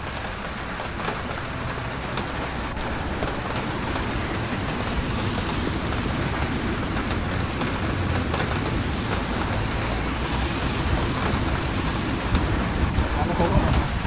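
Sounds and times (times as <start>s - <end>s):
car tyres hissing on wet road: 0.0s - 14.0s
city street traffic: 0.0s - 14.0s
steady rain: 0.0s - 14.0s.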